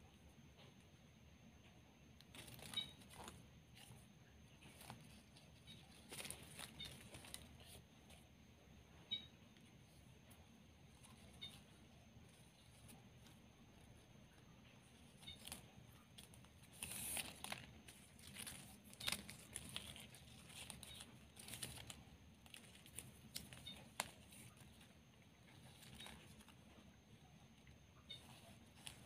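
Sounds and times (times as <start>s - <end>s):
ribbon strips crinkling and rustling: 2.2s - 8.4s, 10.8s - 27.0s, 27.6s - 29.0s.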